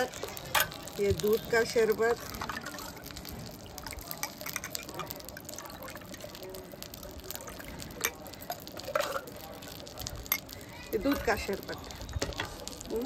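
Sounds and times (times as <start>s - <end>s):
liquid poured into a glass: 0.0s - 13.0s.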